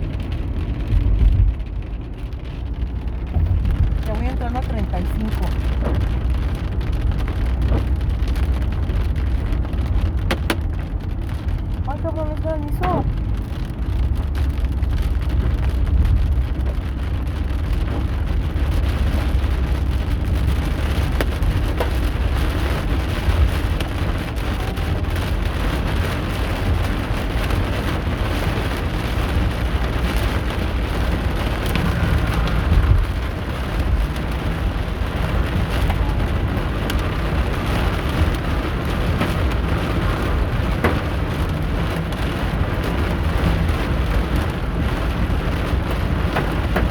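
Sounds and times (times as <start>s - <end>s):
car road rumble: 0.0s - 46.9s
hail and rain on car roof: 0.0s - 46.9s.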